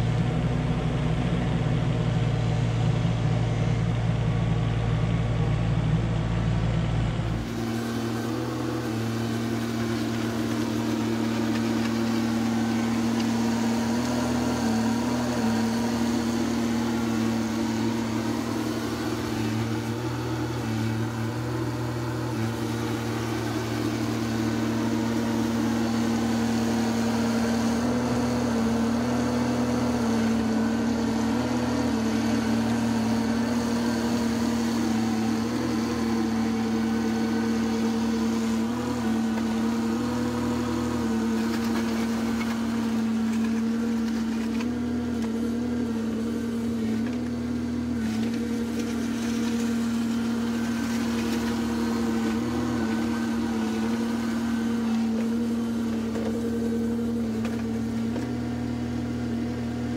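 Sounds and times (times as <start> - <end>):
mini excavator diesel engine: 0.0 - 59.9.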